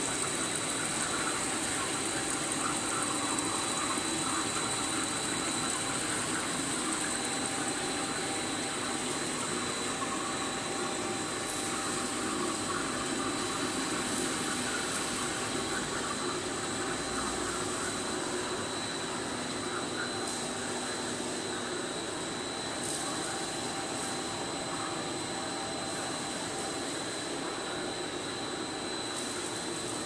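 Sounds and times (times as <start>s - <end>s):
machine hum and hiss: 0.0s - 30.0s.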